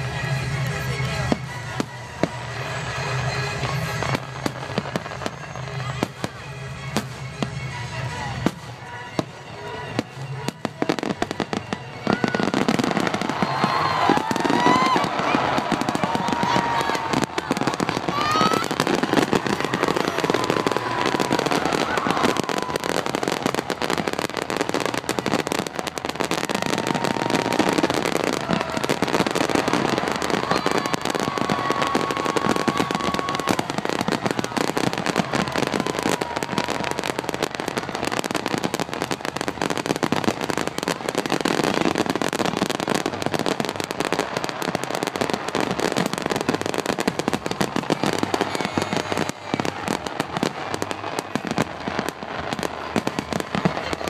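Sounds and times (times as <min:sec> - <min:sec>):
firework whistles rising: 0:00.0 - 0:54.0
fireworks bursting and crackling: 0:00.0 - 0:54.0.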